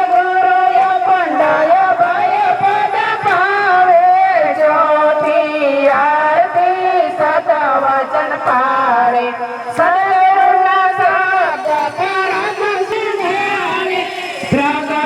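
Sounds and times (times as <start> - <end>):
drum strikes: 0.0 - 15.0
instrumental accompaniment: 0.1 - 15.0.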